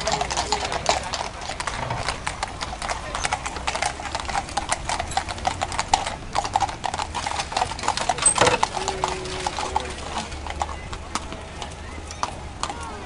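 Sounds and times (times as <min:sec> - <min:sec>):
hooves clip-clopping on a hard road: 0:00.0 - 0:13.0.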